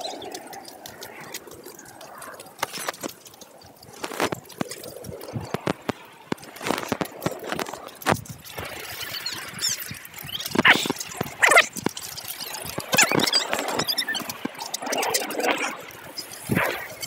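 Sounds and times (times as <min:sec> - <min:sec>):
wheels crunching on gravel: 0:00.0 - 0:17.0.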